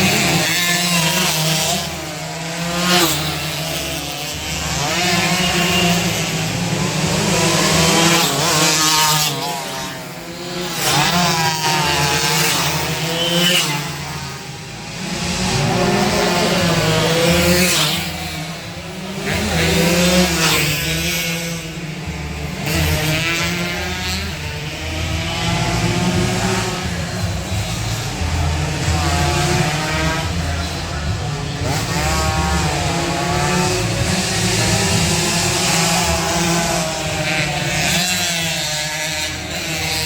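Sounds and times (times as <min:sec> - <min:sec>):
race motorcycles revving past: 0:00.0 - 0:40.0.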